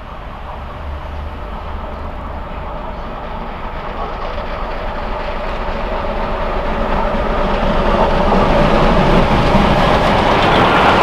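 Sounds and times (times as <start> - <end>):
steam train passing at speed: 0.0 - 11.0.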